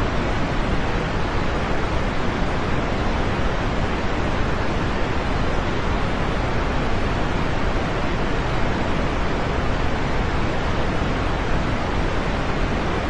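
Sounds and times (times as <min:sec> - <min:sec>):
dense rain falling: 0:00.0 - 0:13.0.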